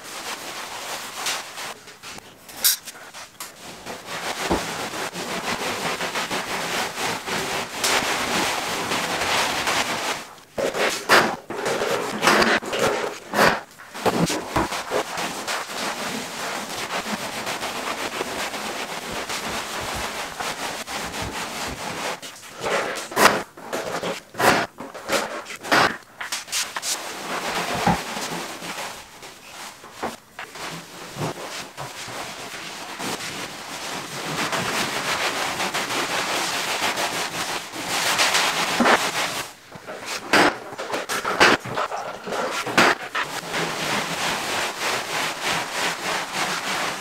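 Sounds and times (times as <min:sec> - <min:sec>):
broom brushing walls: 0:00.0 - 0:47.0.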